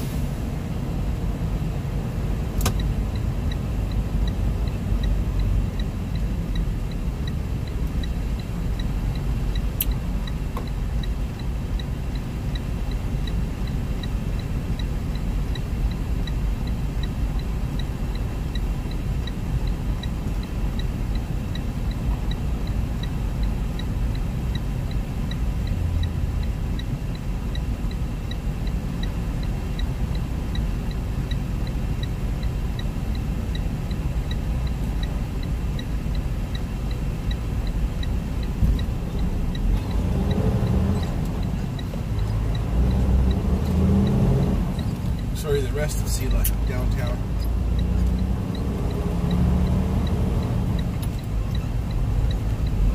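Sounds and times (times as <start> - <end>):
diesel truck engine rumble: 0.0 - 52.9
road noise: 0.0 - 52.9
light ticking: 2.6 - 52.9.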